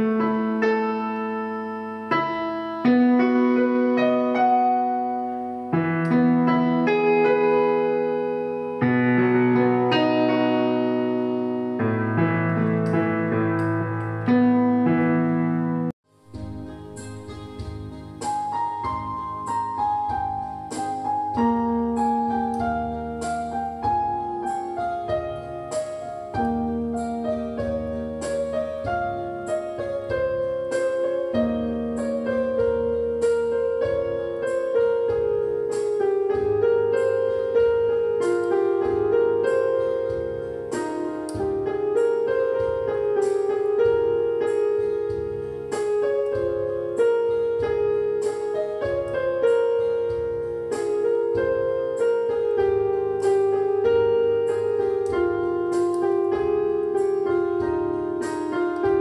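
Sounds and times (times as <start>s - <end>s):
gentle piano music: 0.0s - 59.0s.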